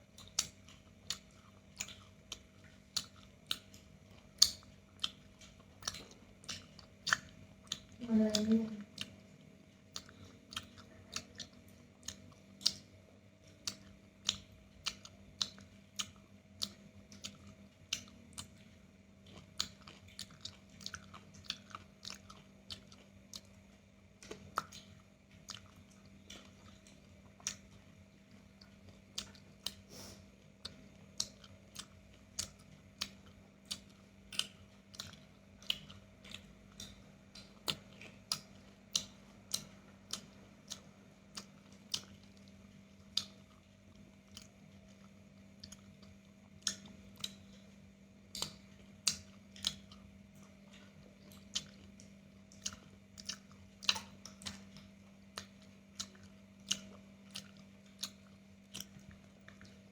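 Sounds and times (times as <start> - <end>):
crunchy chewing: 0.0 - 59.9
faint steady hum: 0.0 - 59.9.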